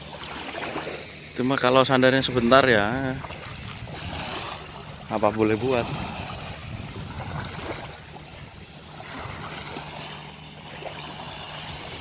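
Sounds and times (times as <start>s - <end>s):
low steady hum: 0.0s - 12.0s
small waves lapping on sand: 0.0s - 12.0s.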